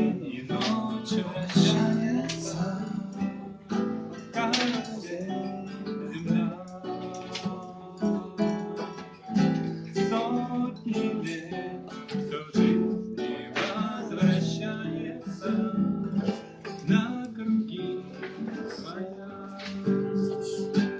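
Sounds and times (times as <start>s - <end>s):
acoustic guitar strumming chords: 0.0s - 20.9s.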